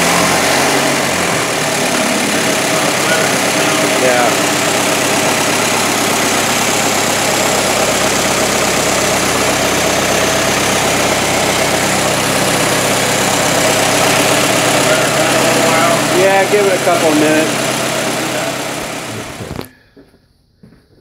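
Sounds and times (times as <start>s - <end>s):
car engine idling: 0.0s - 19.8s.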